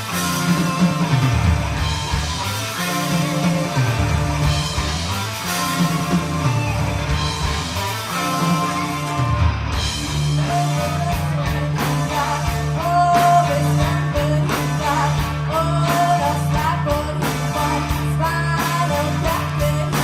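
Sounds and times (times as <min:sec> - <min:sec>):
bass line: 0:00.0 - 0:20.0
drum kit beat: 0:00.0 - 0:20.0
electric guitar: 0:00.0 - 0:20.0.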